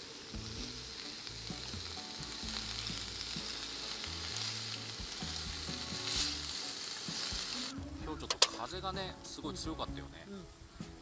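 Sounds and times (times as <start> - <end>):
seafood sizzling in a pan: 0.0 - 11.0.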